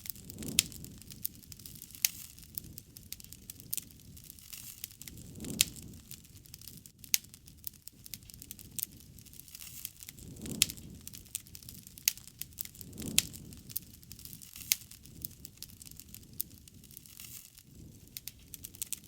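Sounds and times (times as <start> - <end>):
sharp pops and snaps: 0.0 - 19.0
wood fire crackling: 0.0 - 19.0.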